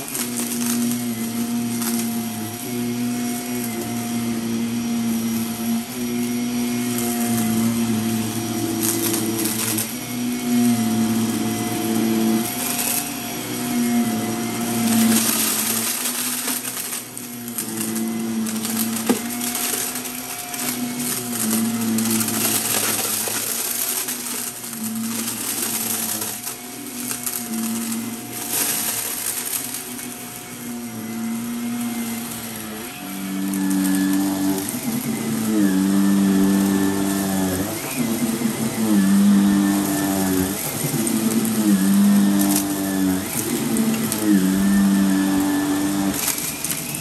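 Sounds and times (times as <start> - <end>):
confetti crackling and rattling: 0.0 - 47.0
vacuum cleaner motor hum: 0.0 - 47.0.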